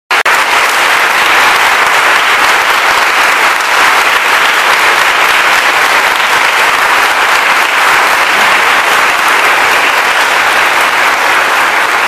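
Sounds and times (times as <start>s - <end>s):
crowd applauding: 0.1s - 12.0s.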